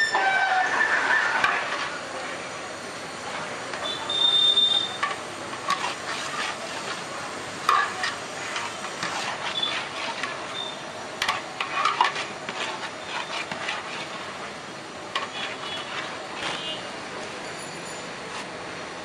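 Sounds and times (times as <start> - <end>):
metal spatula scraping a pot: 0.0 - 2.4, 3.3 - 16.8.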